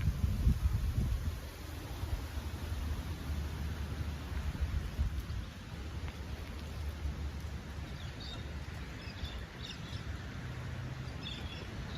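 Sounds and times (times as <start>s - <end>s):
low rumble and hiss: 0.0s - 11.9s.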